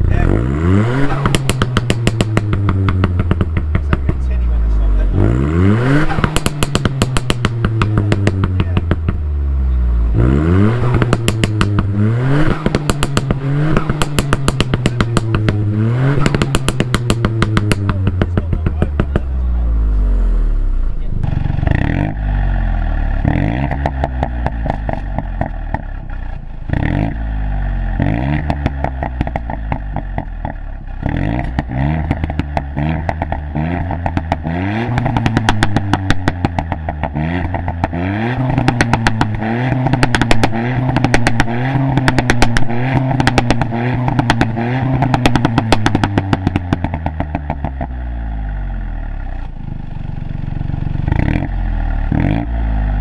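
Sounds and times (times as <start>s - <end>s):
car engine revving: 0.0s - 53.0s
exhaust pops and crackles: 1.0s - 9.4s, 10.7s - 19.7s, 20.8s - 22.5s, 23.2s - 53.0s.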